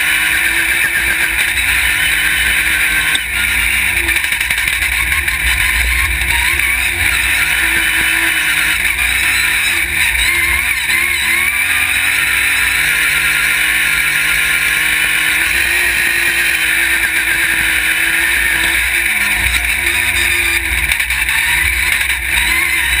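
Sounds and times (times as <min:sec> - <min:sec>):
buggy engine revving: 0:00.0 - 0:23.0.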